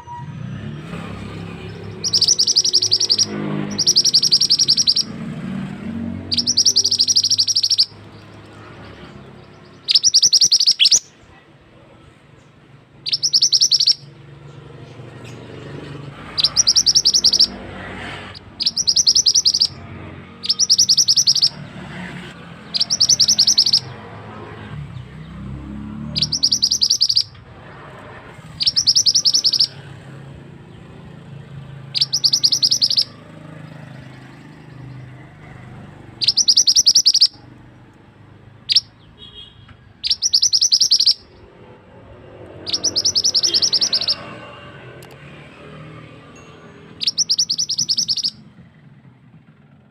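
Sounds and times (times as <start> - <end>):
bird singing rattling trills: 1.0 - 11.2, 12.3 - 24.4, 25.0 - 37.7, 38.5 - 48.5.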